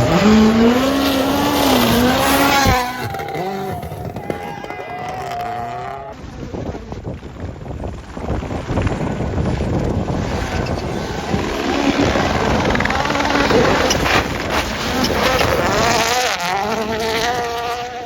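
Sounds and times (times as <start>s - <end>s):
rally car engine passing: 0.0s - 6.4s, 9.5s - 18.0s.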